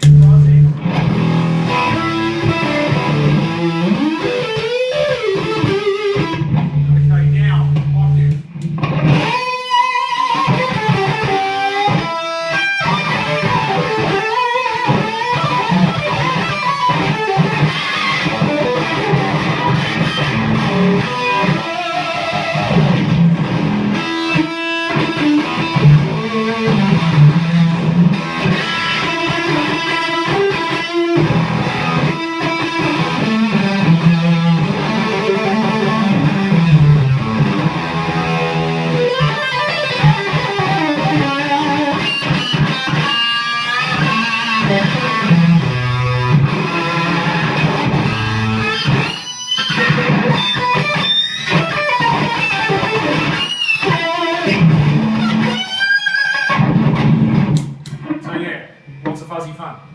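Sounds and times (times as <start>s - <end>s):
fuzzy electric guitar lead: 0.0s - 59.2s.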